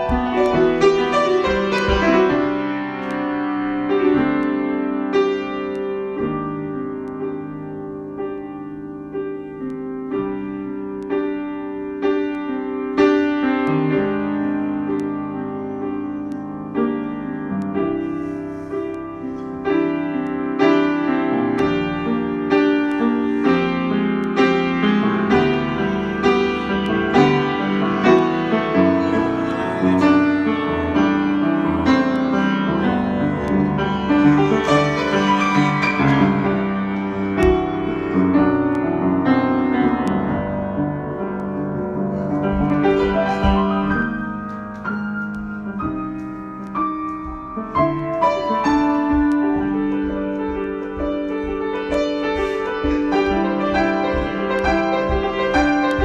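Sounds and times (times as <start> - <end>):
piano playing notes and chords: 0.0 - 56.0.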